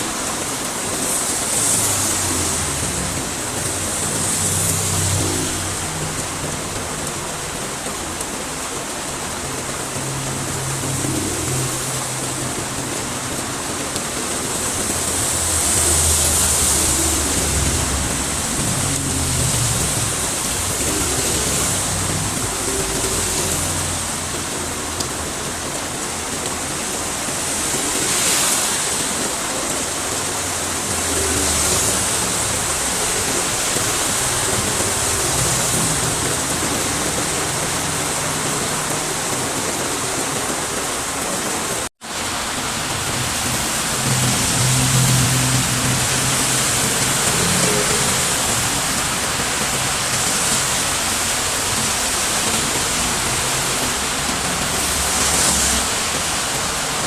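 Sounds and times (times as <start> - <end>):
heavy rain pouring: 0.0 - 57.0
vehicles passing on wet road: 0.0 - 57.0.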